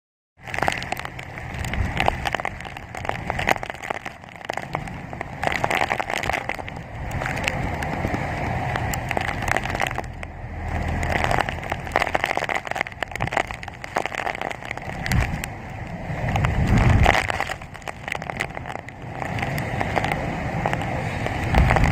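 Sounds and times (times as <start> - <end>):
rain ticking on surfaces: 0.4 - 21.9
wind gusts: 0.4 - 21.9
wind buffeting microphone: 0.5 - 21.9.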